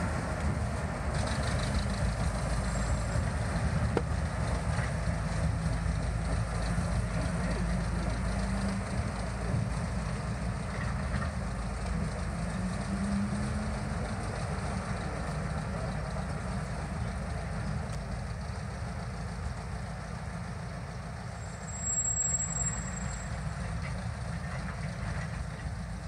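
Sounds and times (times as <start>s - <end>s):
diesel locomotive engine rumbling: 0.0s - 26.0s.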